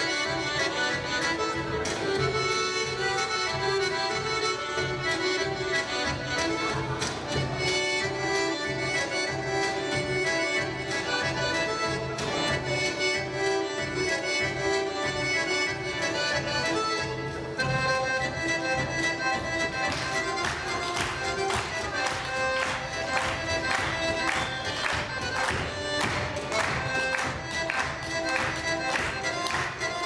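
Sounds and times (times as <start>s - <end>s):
accordion folk dance music: 0.0s - 30.0s.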